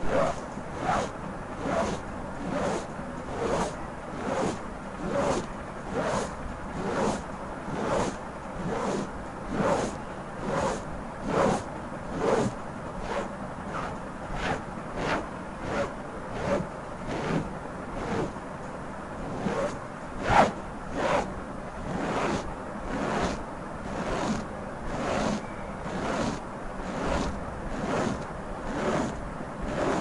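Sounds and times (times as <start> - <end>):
fingernail scratching microphone: 0.0 - 17.4, 19.3 - 30.0.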